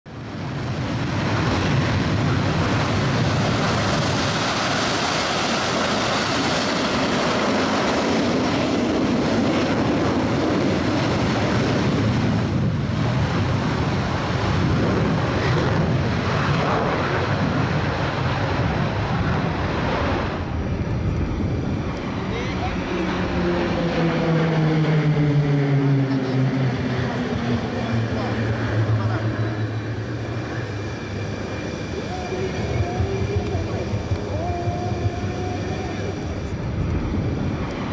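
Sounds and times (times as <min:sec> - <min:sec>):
propeller planes droning past: 0:00.1 - 0:37.9.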